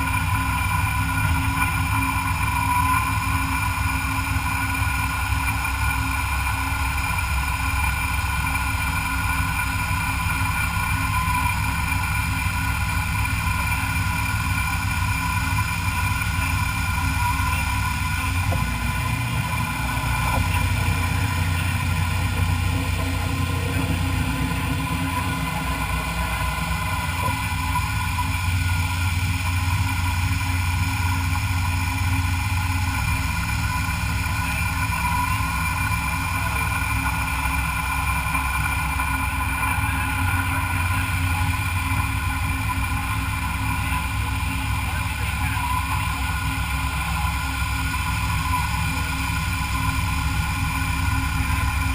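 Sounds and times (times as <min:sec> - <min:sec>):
machine tool humming: 0:00.0 - 0:51.9.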